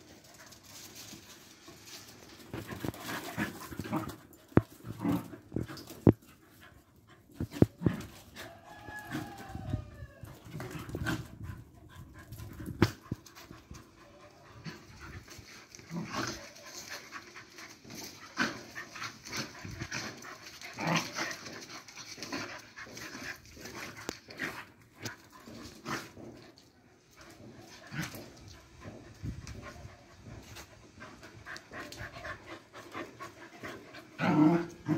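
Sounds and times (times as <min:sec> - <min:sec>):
dogs panting: 0:00.0 - 0:08.5, 0:10.2 - 0:34.9
dogs scuffling: 0:00.0 - 0:34.9.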